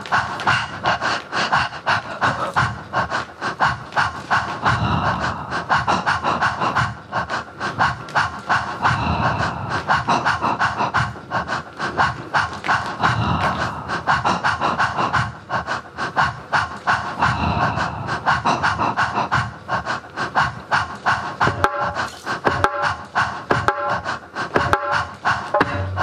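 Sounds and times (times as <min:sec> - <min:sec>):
rapid panting breaths: 0:00.0 - 0:26.0.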